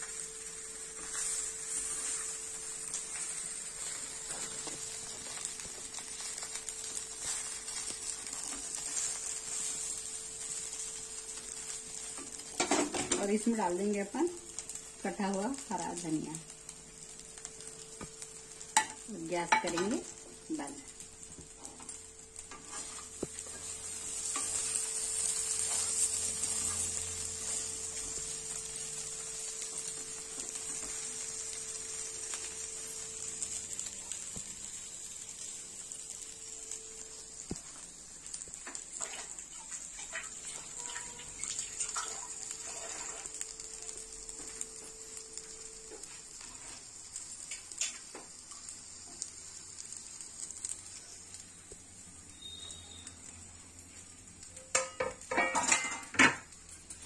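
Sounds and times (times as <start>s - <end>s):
oil sizzling in frying pan: 0.0s - 57.0s.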